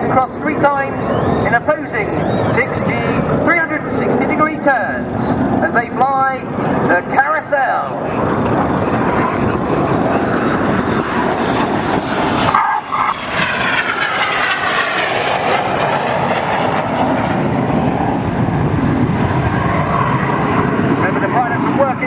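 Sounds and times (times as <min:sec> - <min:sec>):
jet engines roaring: 0:00.0 - 0:22.0
jet passing: 0:00.0 - 0:22.0.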